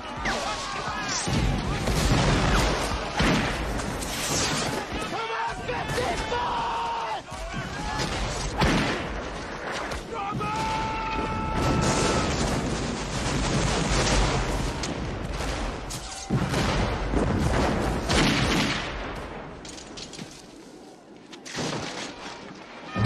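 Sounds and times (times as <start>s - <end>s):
musket fire volleys: 0.0s - 22.6s.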